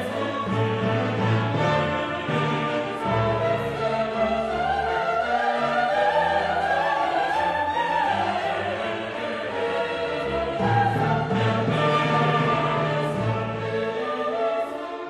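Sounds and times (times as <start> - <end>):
orchestral music: 0.0 - 15.0.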